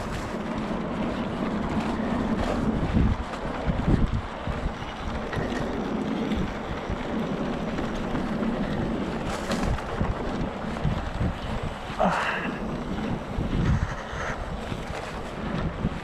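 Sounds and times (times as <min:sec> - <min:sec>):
bike knocks and rattles: 0:00.0 - 0:16.0
bike tyres rolling on dirt: 0:00.0 - 0:16.0
wind on microphone: 0:00.0 - 0:16.0.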